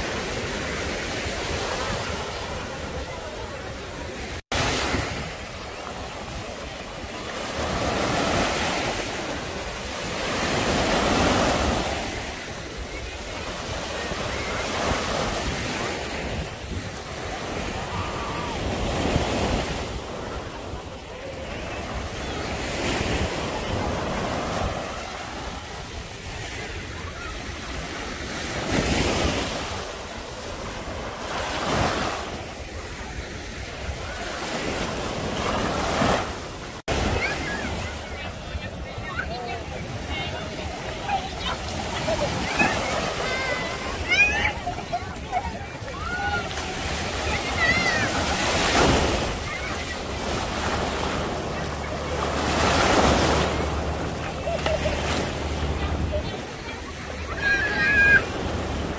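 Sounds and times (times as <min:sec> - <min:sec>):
small waves washing up shore: 0:00.0 - 0:58.9.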